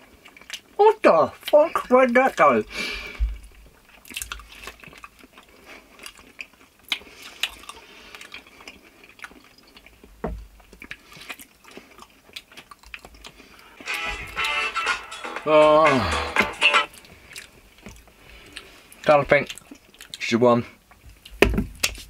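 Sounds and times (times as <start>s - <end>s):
people chewing: 0.0s - 0.8s, 1.4s - 14.8s, 15.8s - 22.0s.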